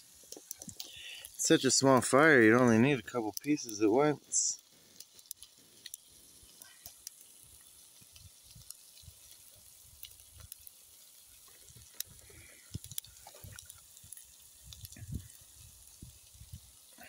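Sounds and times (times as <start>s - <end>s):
food sizzling in a skillet: 0.0s - 17.0s
sharp pops and crackles: 0.0s - 17.0s.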